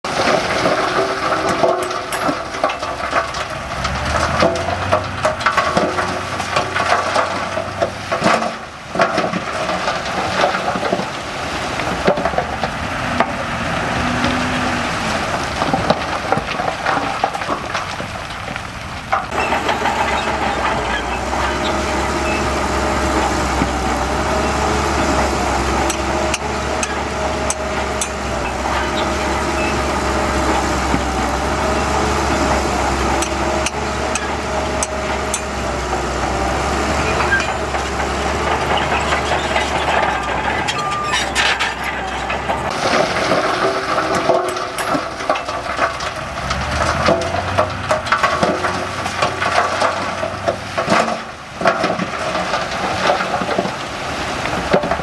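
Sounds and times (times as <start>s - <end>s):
diesel engine running: 0.0s - 55.0s
heavy diesel machinery working: 0.0s - 55.0s
soil and rock clattering: 0.0s - 55.0s.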